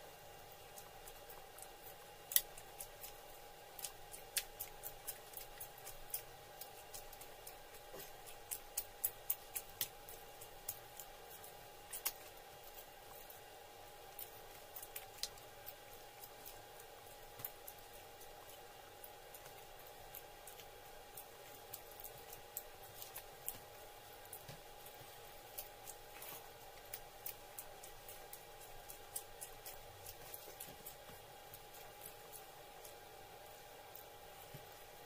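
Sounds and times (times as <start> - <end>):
faint steady hum: 0.0 - 35.0
chewing and mouth smacking: 0.4 - 35.0.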